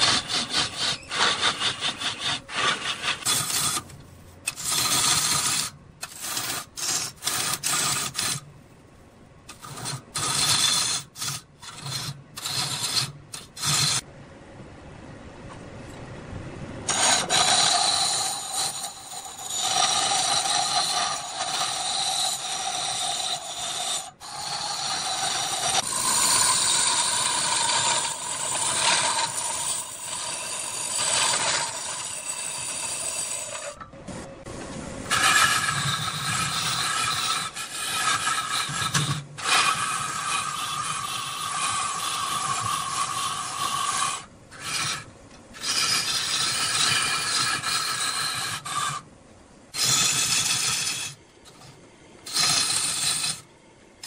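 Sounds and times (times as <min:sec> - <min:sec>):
lathe tool scraping spinning wood: 0:00.0 - 0:08.4, 0:09.5 - 0:14.0, 0:16.9 - 0:33.8, 0:35.1 - 0:49.0, 0:49.8 - 0:53.4.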